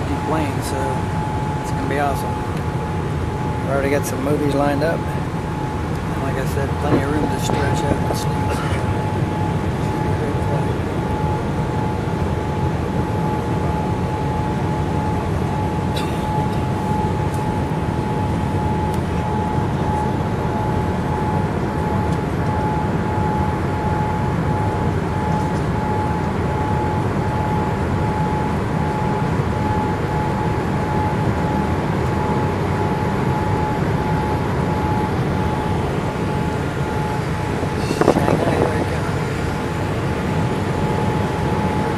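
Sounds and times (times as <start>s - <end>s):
high whine: 0.0s - 41.9s
jet engine and airflow roar: 0.0s - 41.9s.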